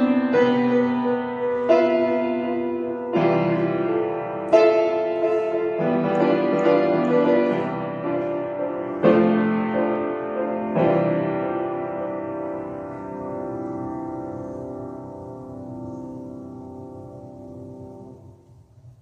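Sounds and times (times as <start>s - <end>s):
solo piano chords: 0.0s - 19.0s.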